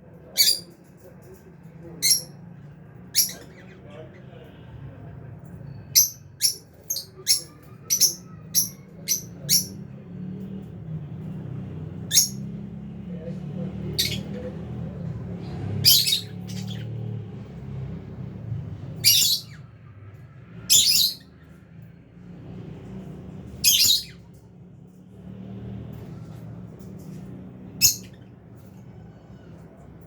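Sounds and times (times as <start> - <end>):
soft bird chatter: 0.0 - 30.0.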